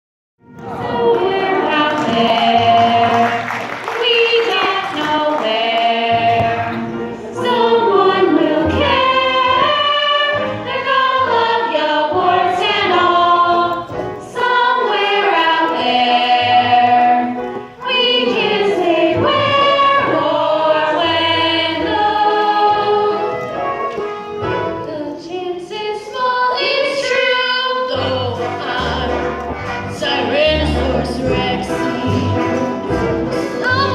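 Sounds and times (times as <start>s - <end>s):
choir singing in harmony: 0.5s - 33.9s.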